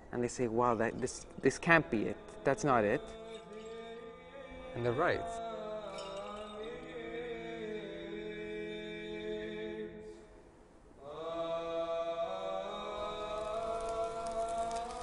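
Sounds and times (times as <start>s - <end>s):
unaccompanied church chanting: 0.1s - 10.4s, 11.0s - 15.0s.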